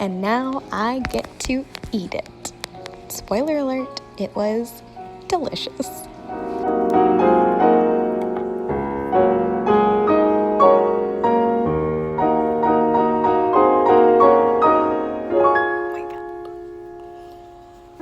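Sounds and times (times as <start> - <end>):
piano playing slow chords: 2.2 - 18.0.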